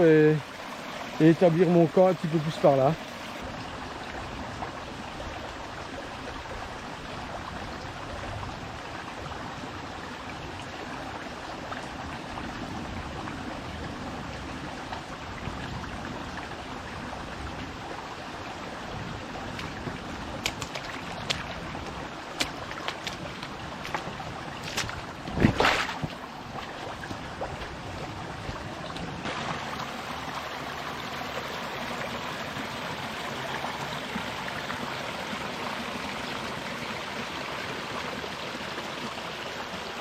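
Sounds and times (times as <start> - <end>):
stream flowing over stones: 0.0 - 40.0.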